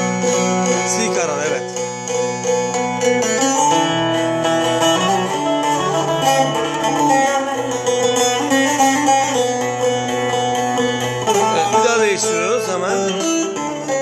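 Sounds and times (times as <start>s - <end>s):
plucked lute melody: 0.0s - 14.0s.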